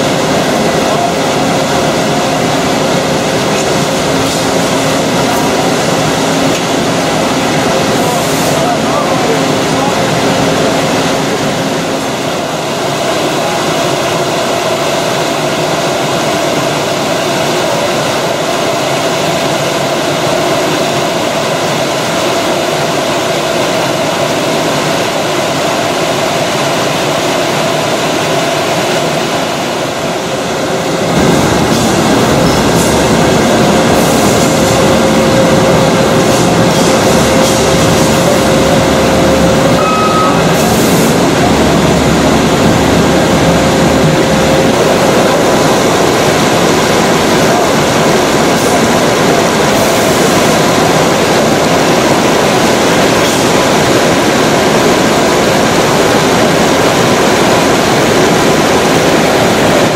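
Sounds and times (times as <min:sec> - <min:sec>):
loud mechanical noise with hum: 0:00.0 - 0:59.9.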